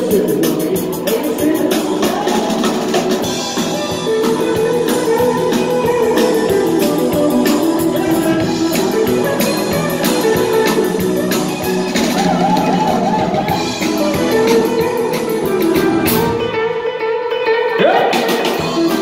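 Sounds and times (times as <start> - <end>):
steady drum beat: 0.0 - 16.5
rock guitar: 0.0 - 19.0.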